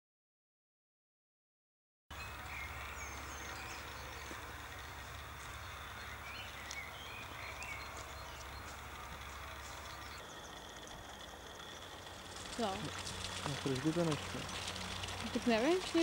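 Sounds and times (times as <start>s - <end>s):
birds chirping: 2.1s - 16.0s.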